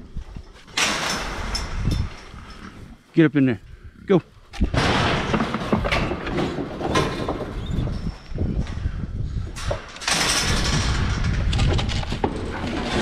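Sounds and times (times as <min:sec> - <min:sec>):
metal panels rattling and knocking: 0:00.3 - 0:02.8, 0:04.5 - 0:13.0.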